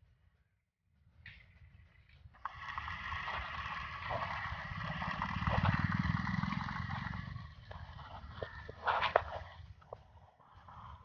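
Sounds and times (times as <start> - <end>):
low rumble over dirt: 1.0 - 11.0.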